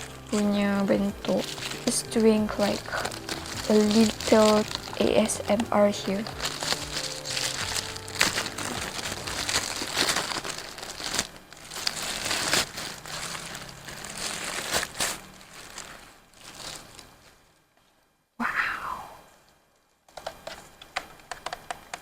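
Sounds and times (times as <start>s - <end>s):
packaging crinkling: 0.0s - 17.6s.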